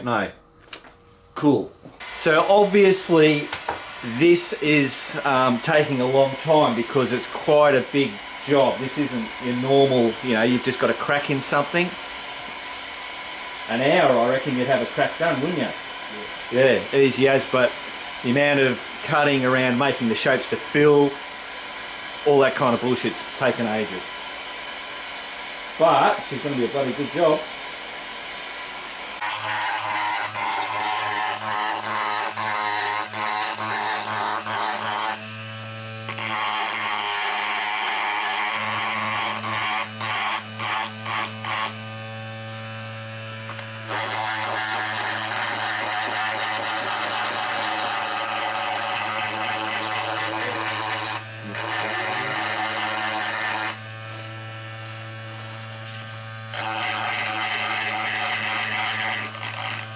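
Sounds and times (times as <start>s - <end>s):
handheld power tool grinding: 0.5s - 59.9s.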